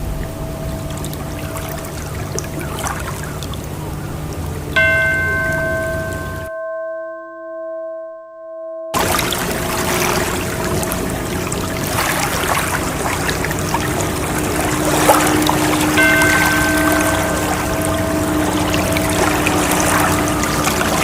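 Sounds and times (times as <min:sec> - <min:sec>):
singing bowl ringing: 0:00.0 - 0:02.3, 0:04.8 - 0:21.0
ocean waves: 0:00.0 - 0:06.5, 0:09.0 - 0:21.0.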